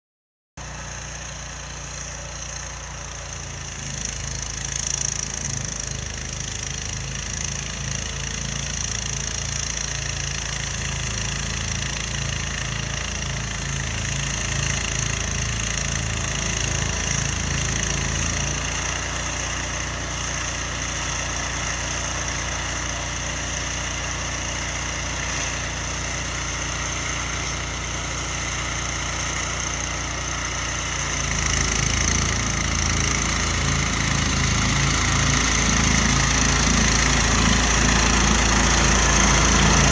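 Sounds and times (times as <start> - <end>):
garden tractor engine running: 0.6 - 39.9.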